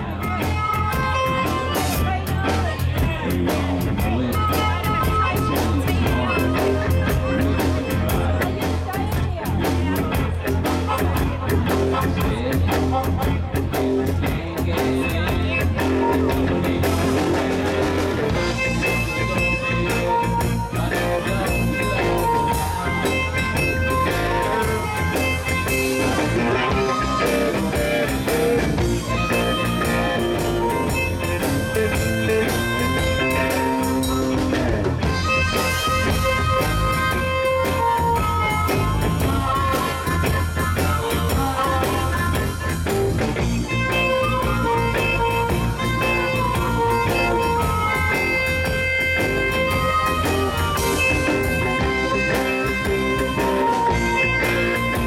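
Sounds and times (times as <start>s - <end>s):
amplified harmonica: 0.0s - 55.0s
blues band playing: 0.0s - 55.0s.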